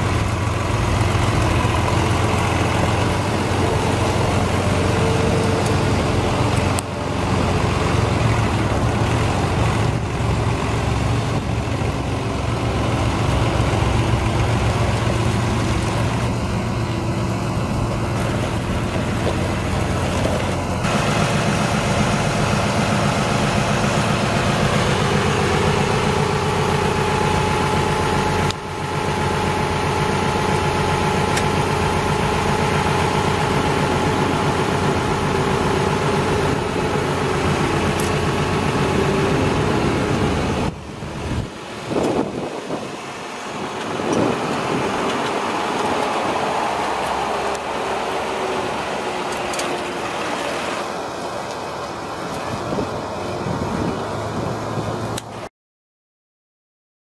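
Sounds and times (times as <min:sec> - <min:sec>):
tractor diesel engine running: 0:00.0 - 0:55.5.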